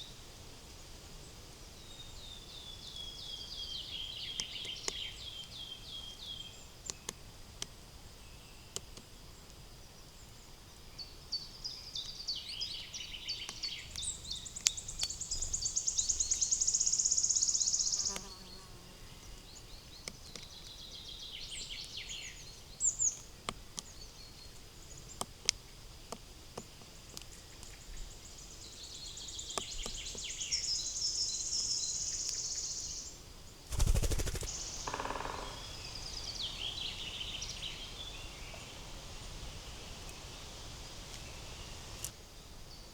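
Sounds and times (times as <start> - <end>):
songbirds singing: 1.7 - 7.2, 10.1 - 42.9.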